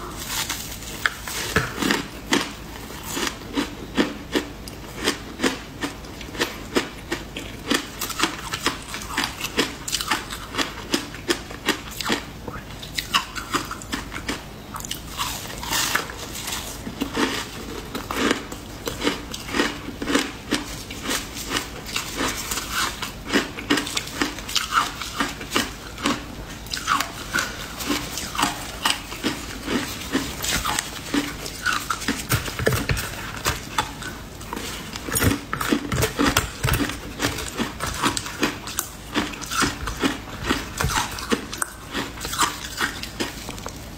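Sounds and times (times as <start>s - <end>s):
crunching and chewing ice: 0.0s - 43.9s.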